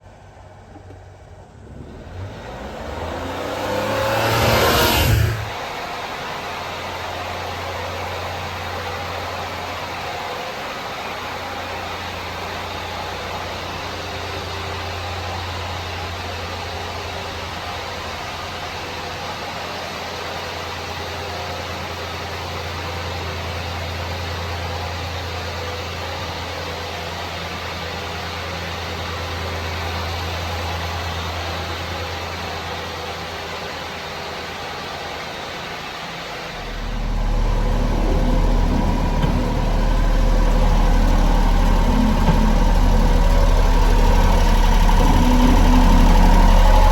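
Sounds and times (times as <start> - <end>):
truck engine idling: 0.1 - 46.9.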